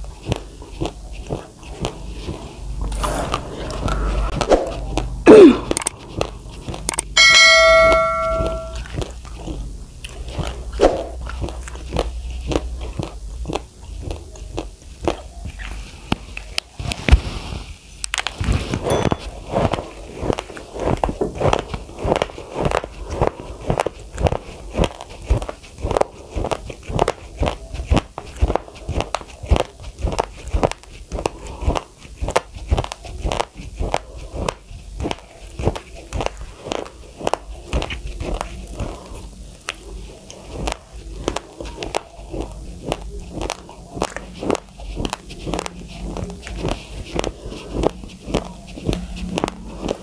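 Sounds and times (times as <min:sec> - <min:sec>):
chewing crunchy raw rice: 0:00.0 - 0:02.9, 0:03.6 - 0:07.2, 0:08.8 - 0:17.1, 0:18.0 - 0:50.0.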